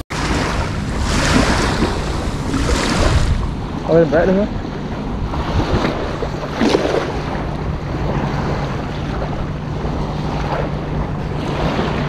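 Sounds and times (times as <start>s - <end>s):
low hum: 0.0s - 12.0s
small waves lapping: 0.1s - 12.0s
wind noise on microphone: 0.1s - 12.0s.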